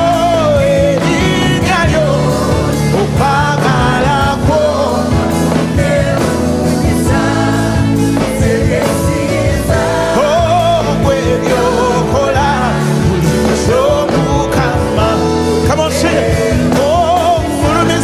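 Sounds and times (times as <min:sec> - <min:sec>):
band with bass and percussion: 0:00.0 - 0:18.0
voices singing gospel song: 0:00.0 - 0:18.0.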